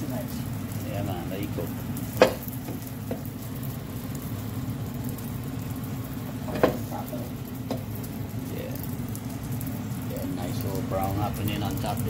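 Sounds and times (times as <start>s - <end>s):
flatbread sizzling on a griddle: 0.0s - 12.0s.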